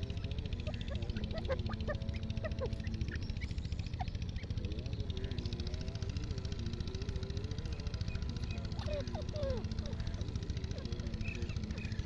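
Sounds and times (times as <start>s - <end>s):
engine puttering: 0.0s - 12.0s.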